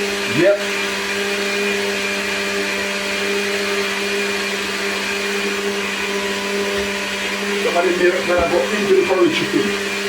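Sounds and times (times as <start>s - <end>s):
blender running: 0.0s - 10.0s.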